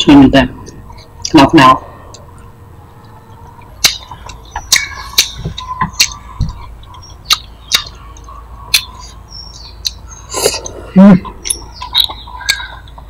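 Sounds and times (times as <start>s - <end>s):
person chewing food: 0.7s - 13.0s.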